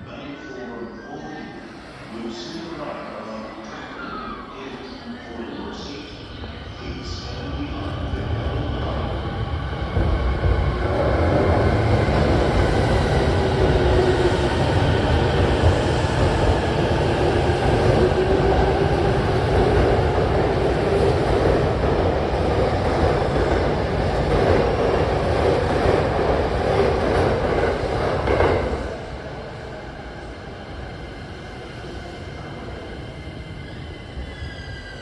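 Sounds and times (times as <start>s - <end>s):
electric train running past: 1.4s - 35.0s.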